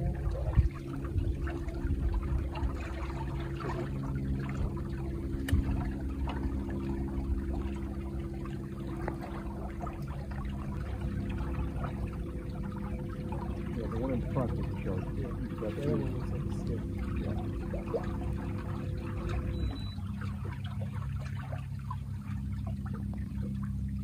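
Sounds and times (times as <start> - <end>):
low mechanical hum: 0.0 - 24.0
water lapping against boat hull: 0.0 - 24.0.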